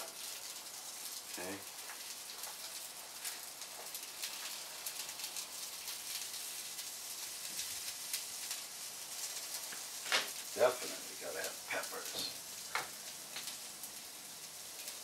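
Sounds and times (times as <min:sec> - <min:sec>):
peppers sizzling in hot oil: 0:00.0 - 0:15.0.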